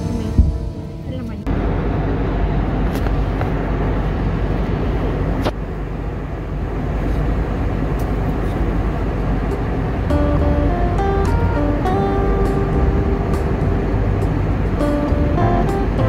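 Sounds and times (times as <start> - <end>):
airliner cabin engine noise: 0.0 - 16.0.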